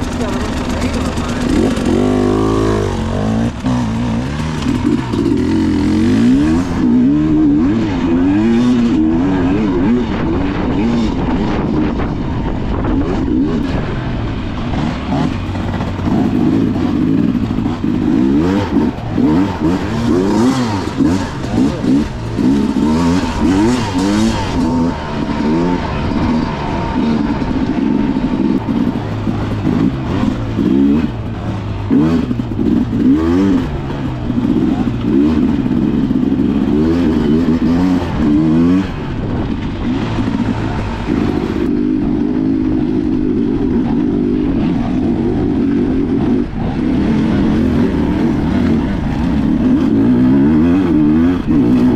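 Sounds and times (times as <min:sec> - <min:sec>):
dirt bike engine revving: 0:00.0 - 0:51.9
trail noise: 0:00.0 - 0:51.9
wind: 0:00.0 - 0:51.9.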